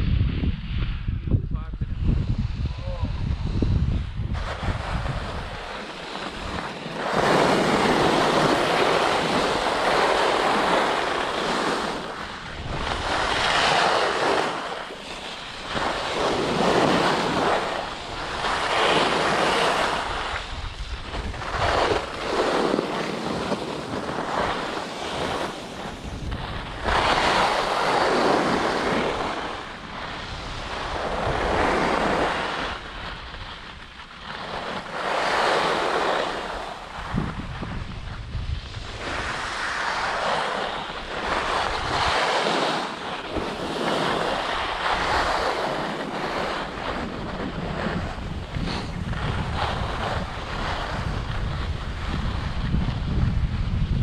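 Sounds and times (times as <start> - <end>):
wind rumbling on microphone: 0.0 - 54.0
skis carving on snow: 1.8 - 54.0.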